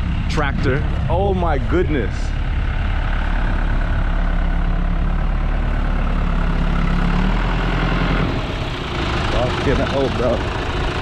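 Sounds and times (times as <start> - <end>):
forklift diesel engine running: 0.0 - 11.0.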